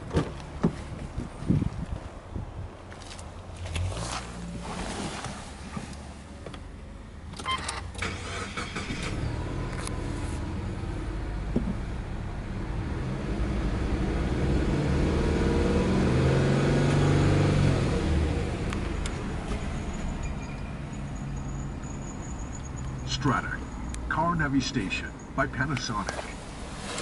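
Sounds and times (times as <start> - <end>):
car engine starting and idling: 3.6 - 27.0.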